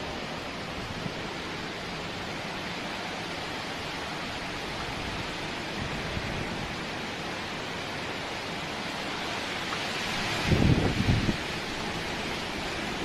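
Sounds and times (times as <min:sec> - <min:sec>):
heavy rain in strong wind: 0:00.0 - 0:13.0.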